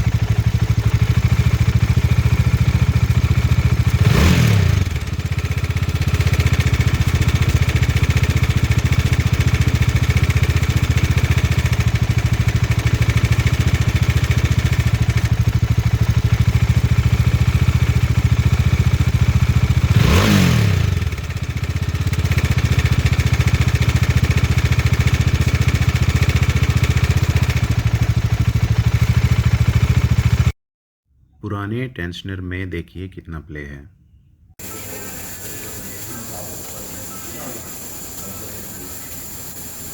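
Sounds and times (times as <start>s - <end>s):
engine throttle blip: 0.0s - 30.5s, 34.6s - 39.9s
motorcycle engine idling: 0.0s - 30.5s, 34.6s - 39.9s.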